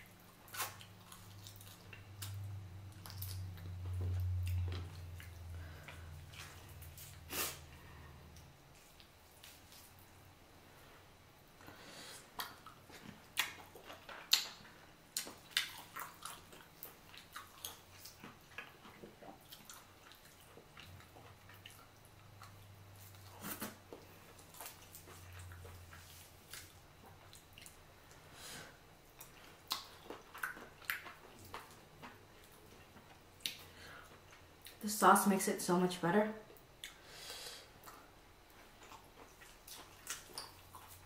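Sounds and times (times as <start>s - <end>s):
person chewing: 0.1s - 10.1s, 11.6s - 28.3s, 29.1s - 34.8s, 36.8s - 41.0s.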